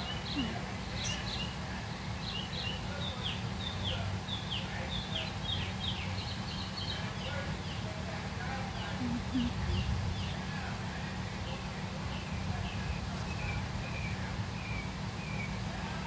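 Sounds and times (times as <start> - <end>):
birds chirping: 0.0 - 16.0
low steady rumble: 0.0 - 16.0.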